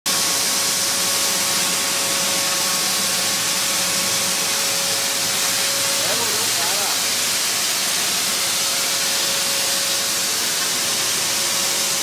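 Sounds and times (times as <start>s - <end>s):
hiss of air and grain: 0.1s - 12.0s
machine hum: 0.1s - 12.0s.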